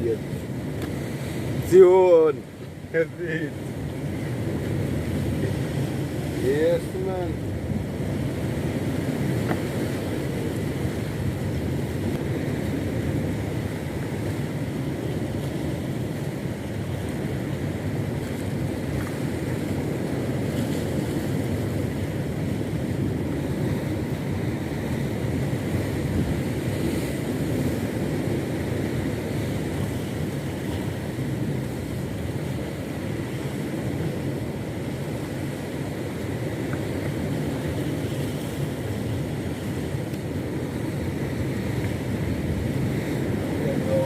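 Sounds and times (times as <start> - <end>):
boat rumbling on the sea: 0.0 - 44.0
wind on microphone: 0.0 - 44.0.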